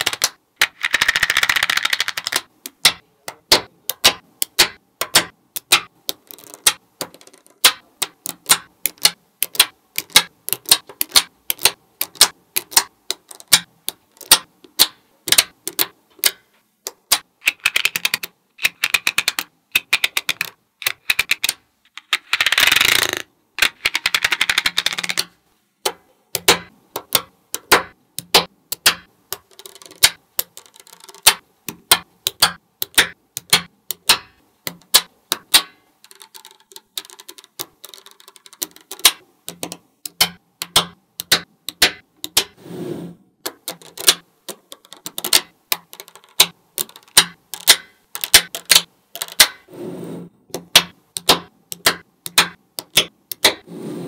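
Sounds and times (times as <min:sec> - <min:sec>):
magnetic balls clicking together: 0:00.0 - 0:42.6, 0:43.4 - 0:49.7, 0:50.5 - 0:53.7.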